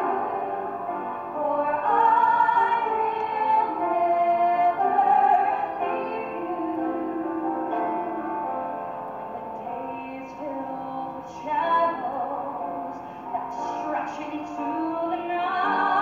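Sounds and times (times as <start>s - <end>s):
women singing a duet: 0.0s - 8.7s, 9.3s - 16.0s.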